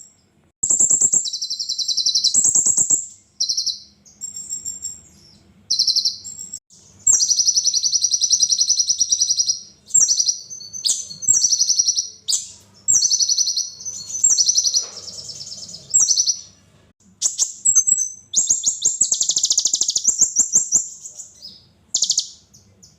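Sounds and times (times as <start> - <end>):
bird singing buzzy trills: 0.0 - 22.9.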